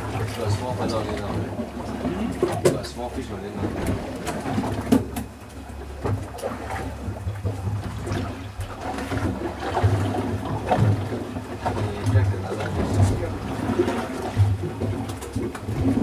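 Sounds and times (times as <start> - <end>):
boat engine humming: 0.0 - 16.0
water sloshing and trickling: 0.0 - 16.0.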